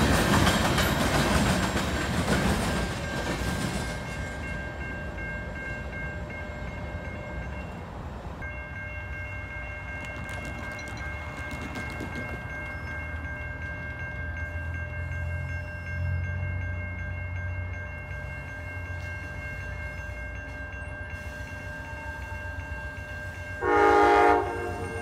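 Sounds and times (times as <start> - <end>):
railroad crossing bell ringing: 0.0 - 25.0
train rumble: 0.0 - 25.0.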